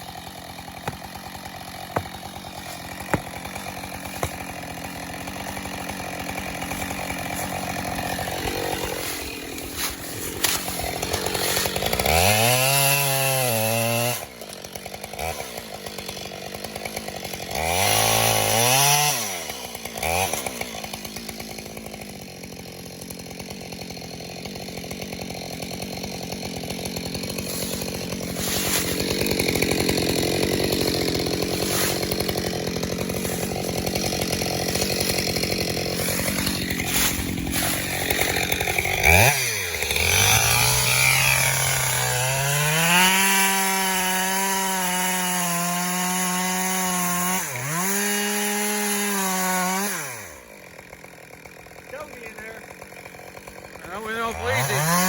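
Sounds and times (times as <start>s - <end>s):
chainsaw running and revving: 0.0s - 55.0s.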